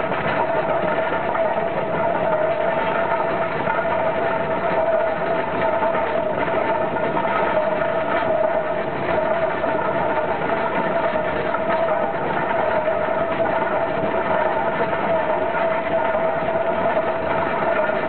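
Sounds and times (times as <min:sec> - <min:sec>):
steam engine clatter and rumble: 0:00.0 - 0:18.0.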